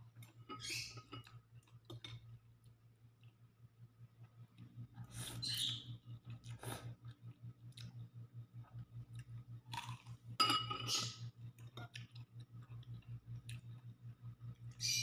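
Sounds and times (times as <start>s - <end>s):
low pulsing hum: 0.0s - 15.0s.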